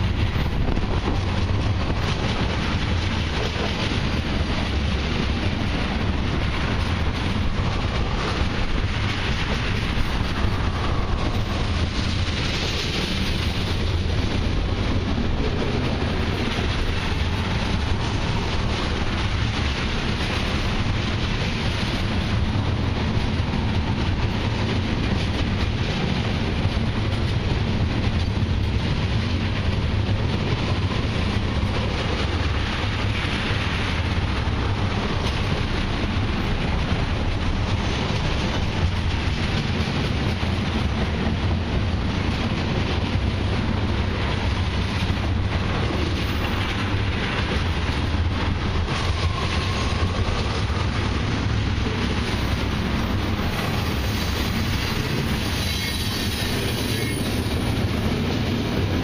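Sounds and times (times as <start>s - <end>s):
freight train rolling past: 0.0s - 59.0s
steel wheels clattering on rails: 0.0s - 59.0s.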